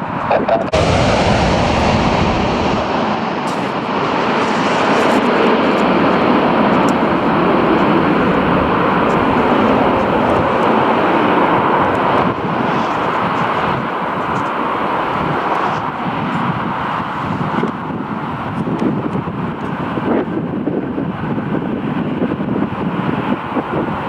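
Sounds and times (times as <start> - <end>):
airliner engine noise: 0.0 - 24.0.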